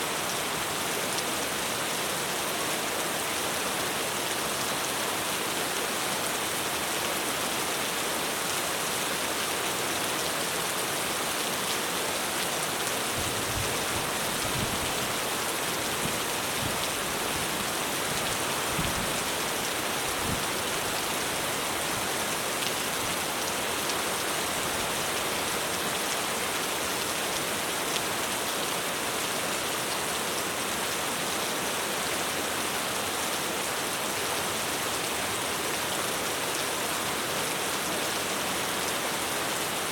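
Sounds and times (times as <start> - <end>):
heavy rain drumming on a roof: 0.0 - 39.9.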